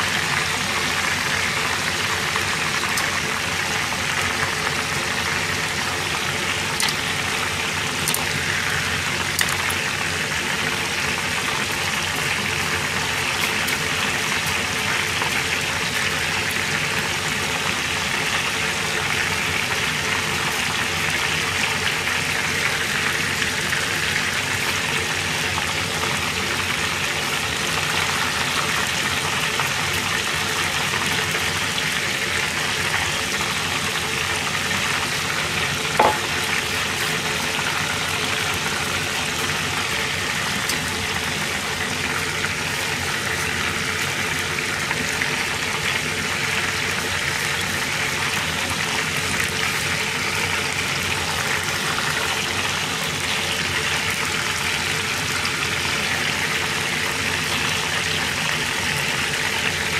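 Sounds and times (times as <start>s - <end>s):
hot oil sizzling: 0.0s - 59.9s.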